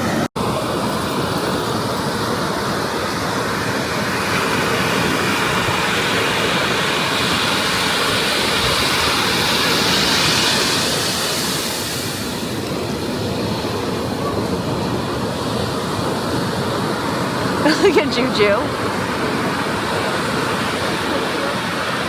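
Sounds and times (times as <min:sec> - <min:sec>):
ocean surf washing ashore: 0:00.0 - 0:22.0.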